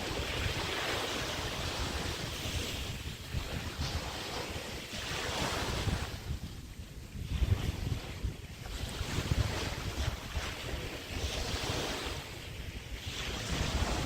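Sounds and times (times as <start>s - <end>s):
waves breaking on a beach: 0.0s - 14.0s
wind rumbling on microphone: 0.0s - 14.0s.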